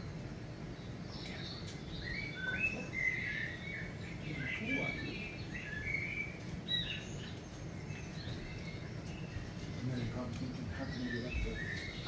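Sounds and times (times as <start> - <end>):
recorded birdsong through speakers: 0.0 - 12.0.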